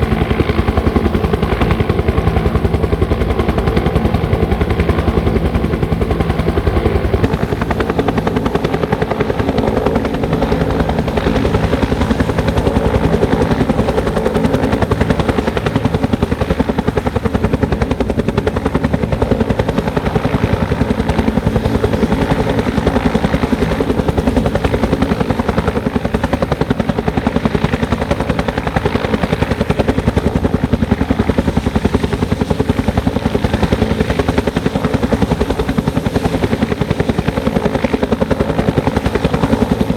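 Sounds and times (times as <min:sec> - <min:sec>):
helicopter rotor beating: 0:00.0 - 0:39.9.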